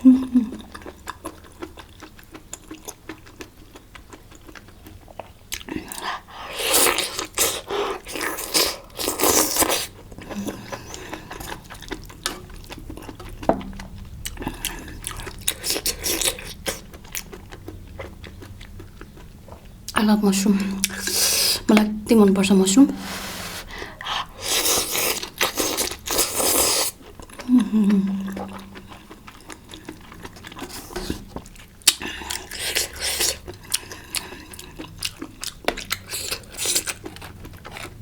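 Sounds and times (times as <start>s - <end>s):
wet chewing and biting: 0.6s - 20.0s, 23.6s - 38.0s.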